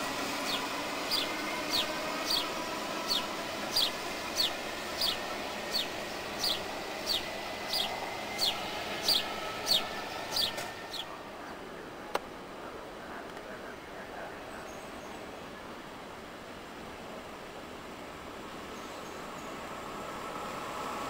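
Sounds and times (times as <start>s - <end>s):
train wheels and motors rumbling: 0.0s - 13.6s, 16.3s - 21.0s.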